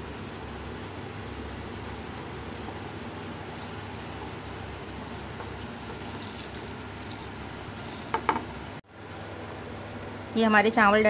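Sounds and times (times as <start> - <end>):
water boiling and bubbling: 0.0 - 10.9.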